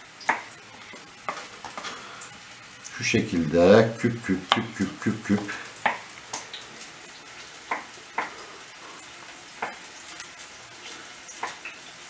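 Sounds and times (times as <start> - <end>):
peppers sizzling in oil: 0.0 - 12.0.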